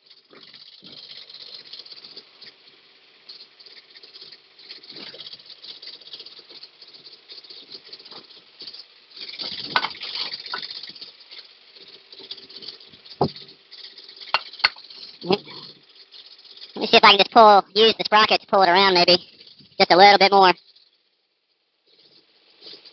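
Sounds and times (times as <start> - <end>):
mini excavator rattling: 0.0 - 20.9
faint steady hum: 0.0 - 22.9.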